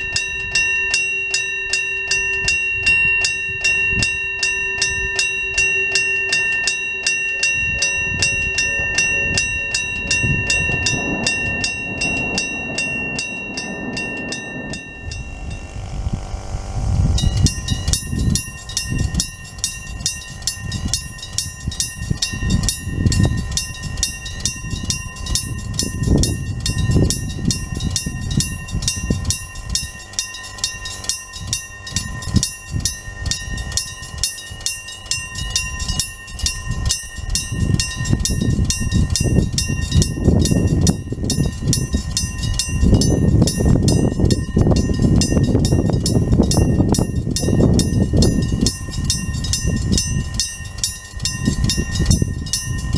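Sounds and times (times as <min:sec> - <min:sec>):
level crossing warning bell: 0:00.0 - 0:52.9
train rumble: 0:06.4 - 0:52.9.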